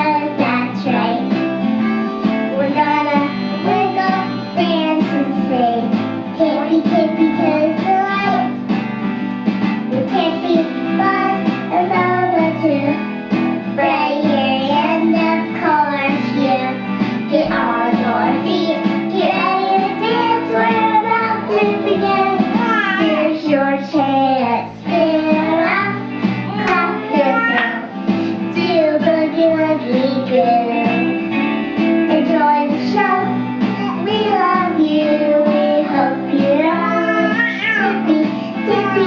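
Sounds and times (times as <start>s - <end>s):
child singing: 0.0s - 1.3s, 2.5s - 8.6s, 9.9s - 13.0s, 13.8s - 27.9s, 28.5s - 31.0s, 32.1s - 39.0s
instrumental accompaniment with guitar: 0.0s - 39.0s.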